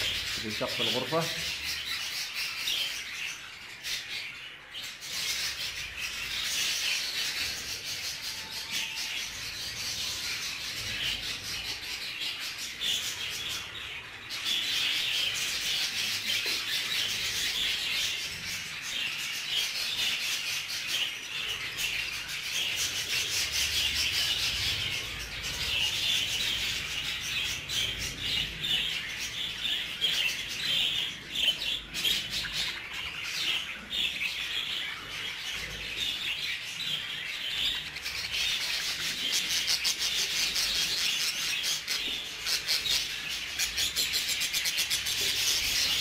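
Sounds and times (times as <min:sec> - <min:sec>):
flock of budgerigars chattering: 0:00.0 - 0:46.0.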